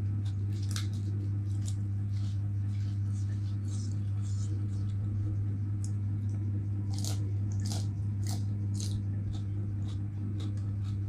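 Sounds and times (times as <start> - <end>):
low hum: 0.0 - 11.0
person chewing lettuce crunches: 0.0 - 11.0.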